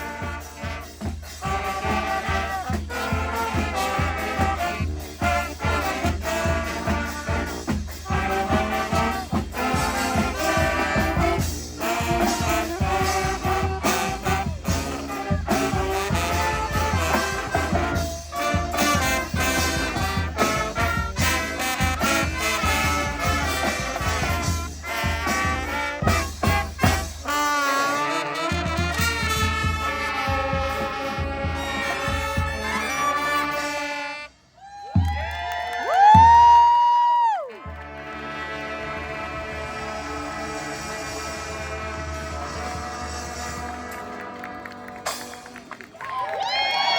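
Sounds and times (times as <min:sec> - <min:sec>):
brass band playing: 0:00.0 - 0:34.6, 0:37.4 - 0:45.9.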